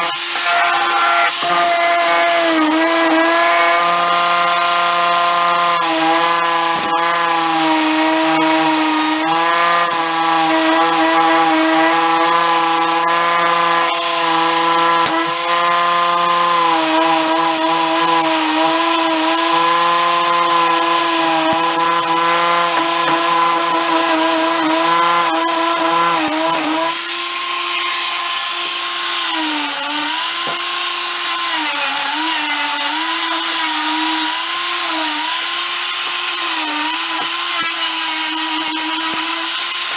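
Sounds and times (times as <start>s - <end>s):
grinding hiss: 0.0s - 39.9s
power tool whining: 0.0s - 39.9s.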